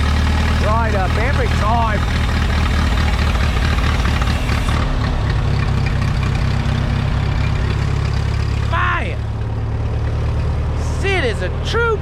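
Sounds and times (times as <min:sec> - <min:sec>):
old tractor engine idling: 0:00.0 - 0:12.0.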